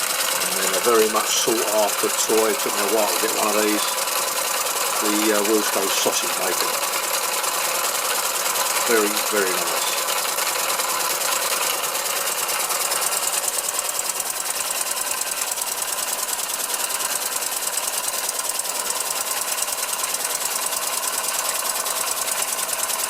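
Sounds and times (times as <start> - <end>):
model engine mechanical clatter: 0.0 - 23.0.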